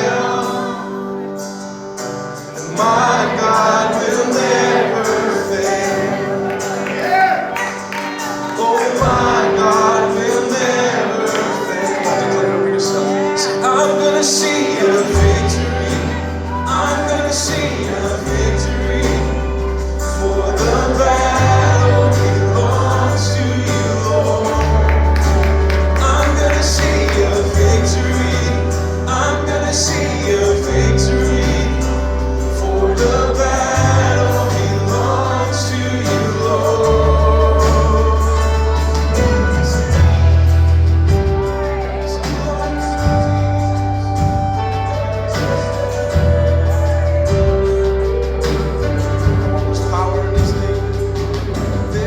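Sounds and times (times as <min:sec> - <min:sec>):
gospel singers over a band: 0:00.0 - 0:52.0
held bass chords: 0:02.7 - 0:52.0.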